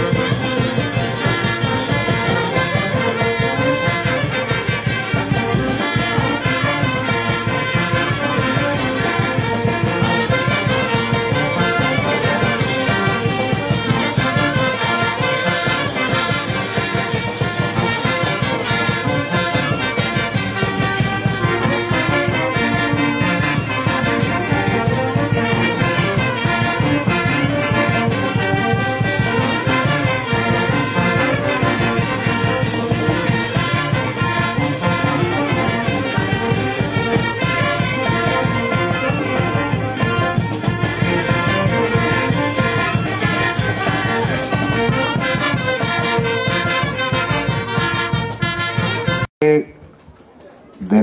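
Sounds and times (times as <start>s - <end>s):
brass band playing dance tune: 0.0s - 49.4s.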